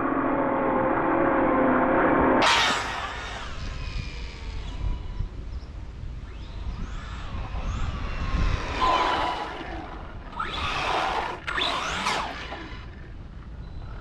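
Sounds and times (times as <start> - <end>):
electric motor whining: 2.4 - 13.8.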